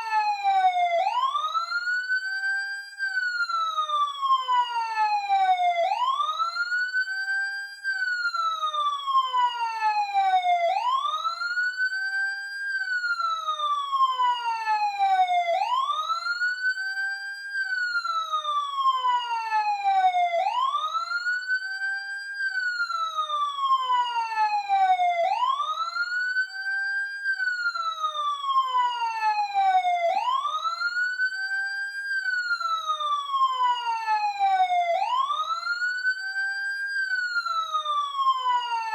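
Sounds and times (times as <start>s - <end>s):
emergency vehicle siren wailing: 0.0s - 38.9s.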